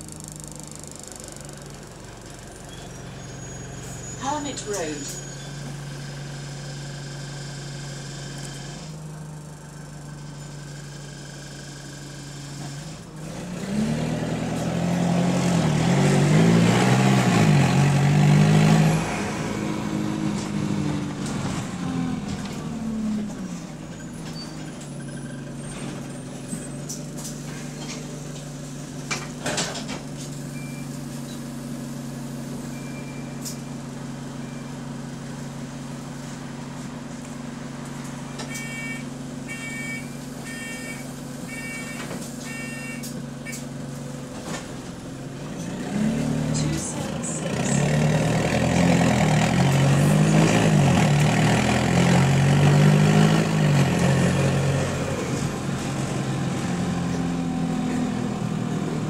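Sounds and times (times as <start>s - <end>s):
bus diesel engine: 0.0s - 59.0s.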